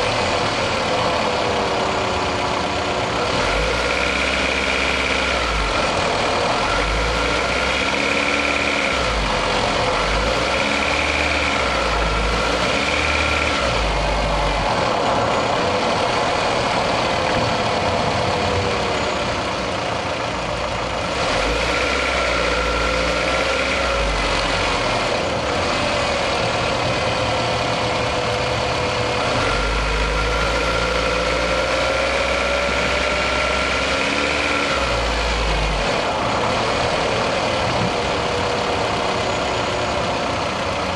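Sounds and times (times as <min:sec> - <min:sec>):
car engine running under load: 0:00.0 - 0:40.9.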